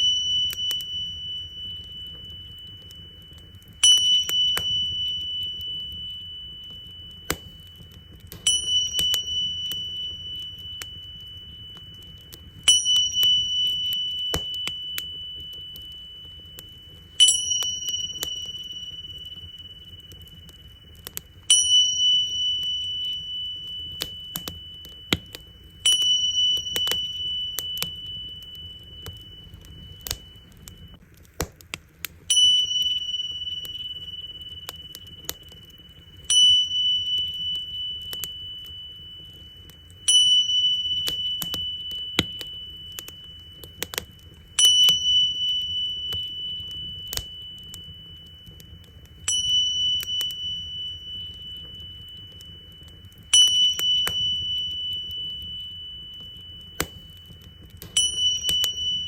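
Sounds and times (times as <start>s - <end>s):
tingsha cymbals ringing: 0.0s - 31.0s, 32.3s - 59.0s
wood fire crackling: 0.0s - 59.0s.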